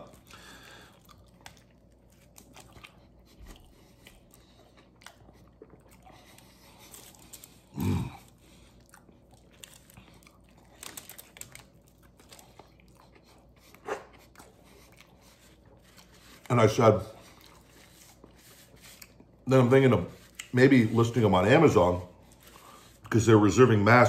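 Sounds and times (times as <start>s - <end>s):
man chewing food: 0.0s - 23.2s.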